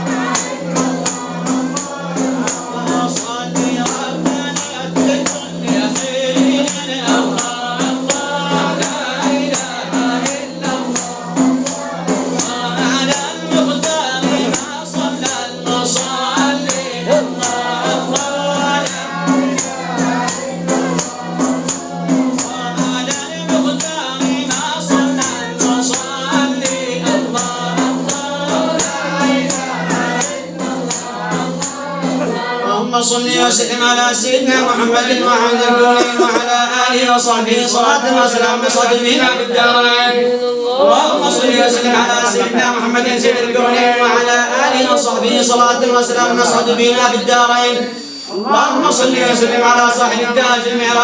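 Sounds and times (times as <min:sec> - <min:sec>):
hand drums with jingles: 0:00.0 - 0:39.8, 0:40.7 - 0:48.3
group singing a devotional chant: 0:00.0 - 0:51.0.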